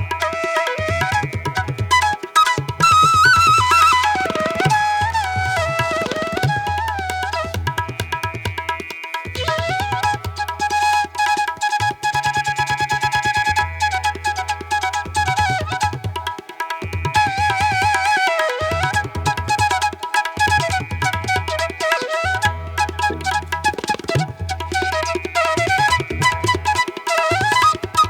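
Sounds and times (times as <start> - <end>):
tabla-like drum strokes: 0.0 - 28.0.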